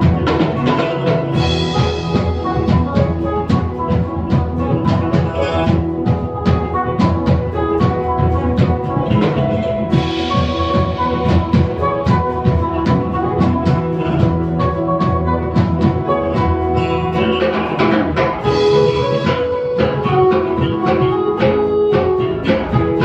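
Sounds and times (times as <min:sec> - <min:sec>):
drum kit keeping time: 0:00.0 - 0:23.0
sustained melodic notes: 0:00.0 - 0:23.0.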